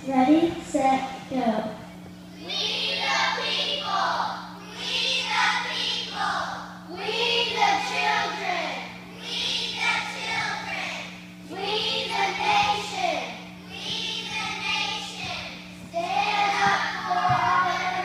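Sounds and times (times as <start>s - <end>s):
steady low hum: 0.0s - 18.0s
children singing together: 2.4s - 18.0s.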